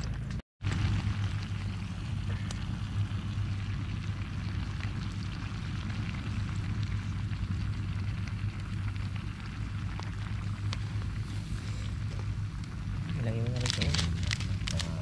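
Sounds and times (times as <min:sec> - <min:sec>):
small crackles: 0:00.0 - 0:15.0
steady low hum: 0:00.0 - 0:15.0.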